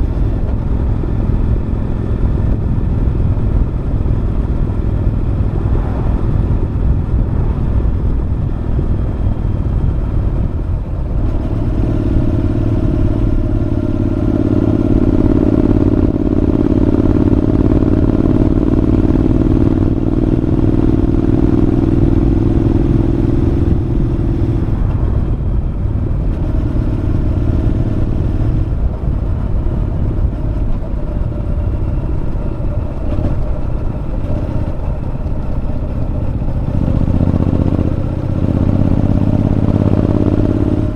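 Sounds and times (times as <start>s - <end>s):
motorcycle engine exhaust: 0.0s - 40.9s.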